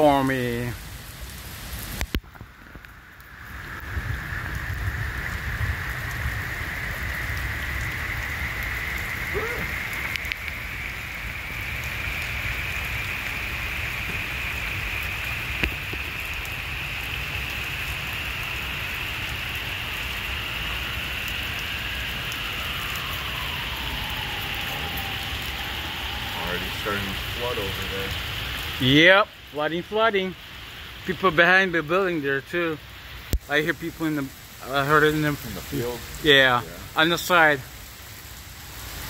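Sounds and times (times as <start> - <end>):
heavy rain on wet pavement: 0.0 - 39.0.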